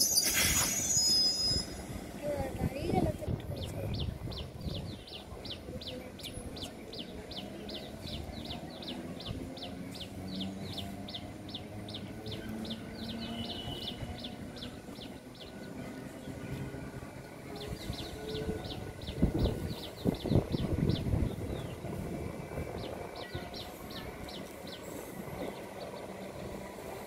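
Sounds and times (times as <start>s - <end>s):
distant electric train rumble: 0.0s - 27.0s.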